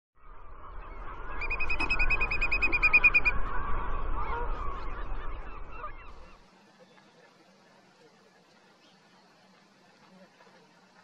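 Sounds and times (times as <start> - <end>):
flock of birds calling: 0.7 - 10.8.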